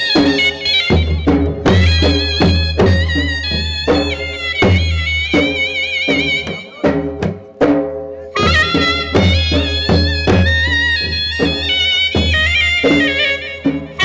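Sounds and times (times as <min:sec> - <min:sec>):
reedy wind instrument melody: 0:00.0 - 0:07.2, 0:08.2 - 0:14.0
drum beat: 0:00.0 - 0:14.0.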